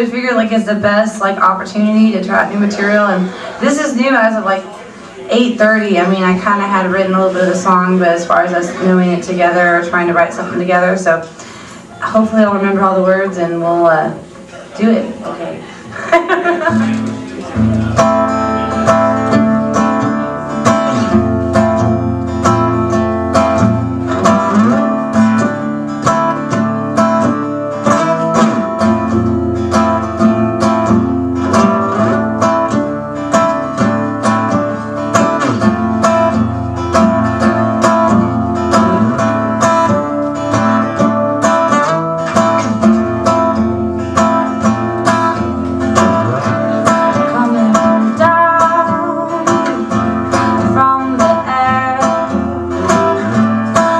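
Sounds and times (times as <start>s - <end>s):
acoustic guitar picking: 0.0s - 53.9s.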